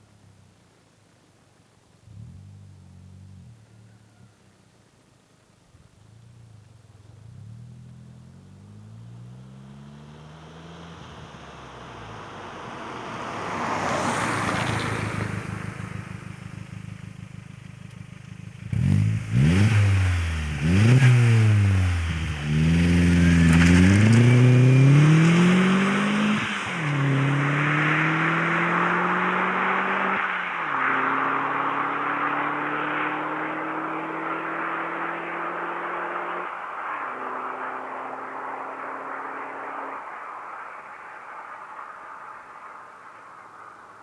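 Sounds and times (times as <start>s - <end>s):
turbocharged car engine accelerating: 2.1s - 3.7s, 6.1s - 44.0s.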